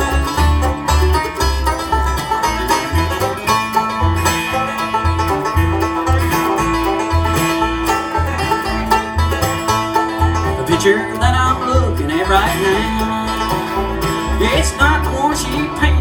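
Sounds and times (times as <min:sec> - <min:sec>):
banjo picking: 0:00.0 - 0:16.0
bluegrass band playing: 0:00.0 - 0:16.0
held string notes: 0:00.0 - 0:16.0
low bass notes: 0:00.0 - 0:16.0.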